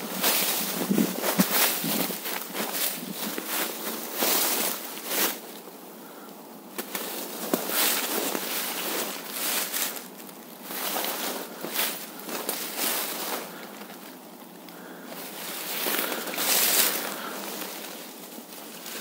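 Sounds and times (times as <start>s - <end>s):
footsteps crunching dry leaves: 0.0s - 5.7s, 6.7s - 19.0s
brush rustling: 0.0s - 19.0s.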